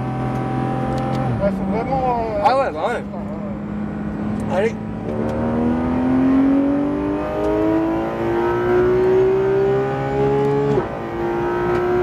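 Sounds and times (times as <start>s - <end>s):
sports car engine at full throttle: 0.0s - 12.0s.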